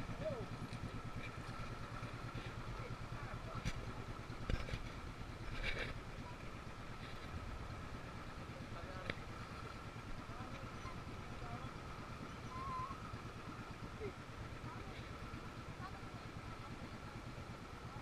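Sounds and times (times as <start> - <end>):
boat engine chugging: 0.0 - 18.0.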